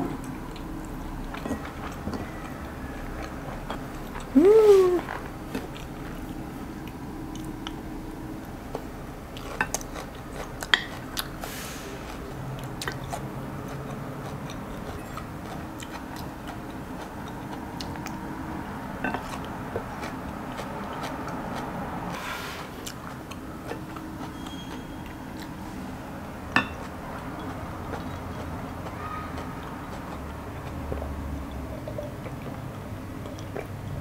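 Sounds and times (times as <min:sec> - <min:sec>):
chewing and mouth sounds: 0:00.0 - 0:22.2, 0:22.8 - 0:25.8, 0:26.5 - 0:34.0.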